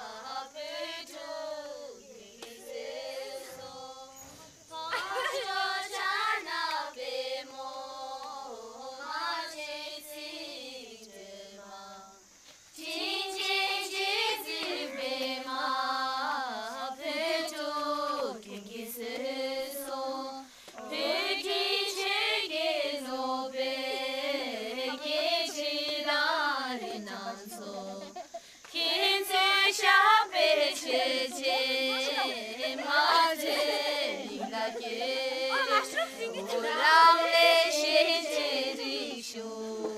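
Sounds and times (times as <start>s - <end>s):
girls singing together: 0.0s - 39.9s.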